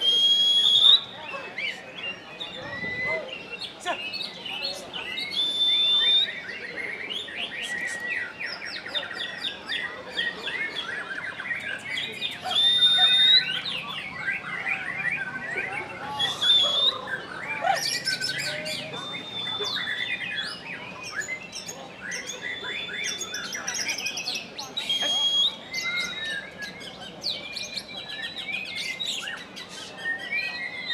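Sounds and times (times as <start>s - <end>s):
songbird singing rapid chirps: 0.0s - 30.9s.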